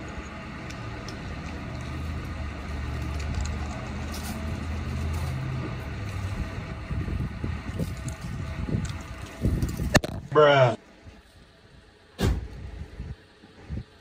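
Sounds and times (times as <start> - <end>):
car engine idling: 0.0 - 13.4.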